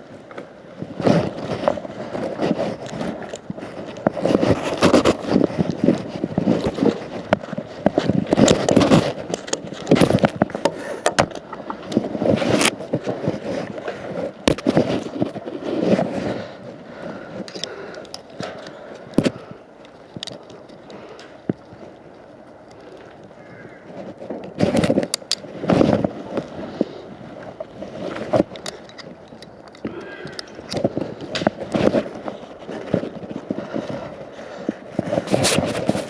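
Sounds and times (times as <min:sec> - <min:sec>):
irregular scraping and crackling: 0:00.0 - 0:36.0.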